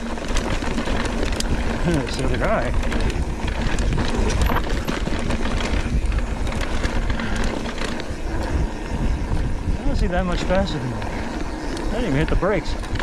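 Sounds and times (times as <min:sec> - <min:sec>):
bike rattling over bumps: 0:00.0 - 0:13.0
tyres on dirt: 0:00.0 - 0:13.0
wind buffeting microphone: 0:00.0 - 0:13.0.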